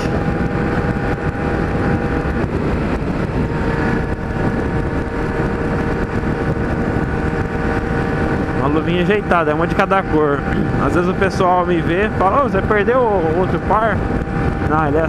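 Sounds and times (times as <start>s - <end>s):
motorcycle engine: 0.0s - 15.0s
wind rushing: 0.0s - 15.0s.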